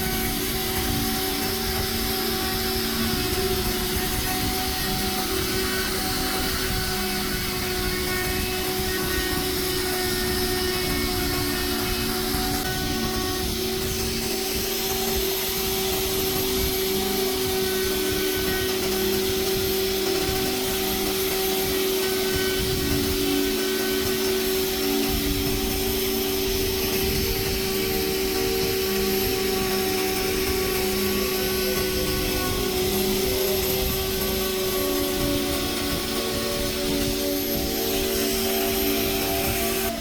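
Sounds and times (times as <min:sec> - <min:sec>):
machine motor hum: 0:00.0 - 0:40.0.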